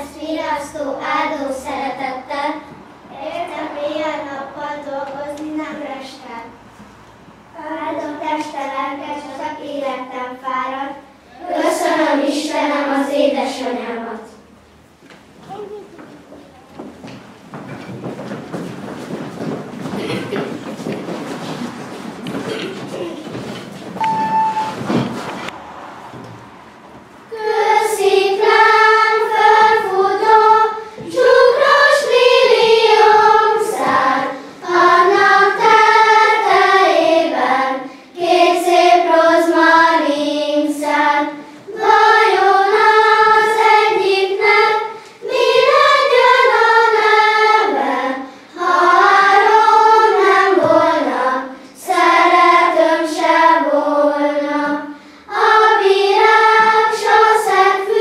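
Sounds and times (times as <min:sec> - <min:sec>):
children's choir singing: 0:00.0 - 0:05.4, 0:10.7 - 0:14.5, 0:17.0 - 0:58.0.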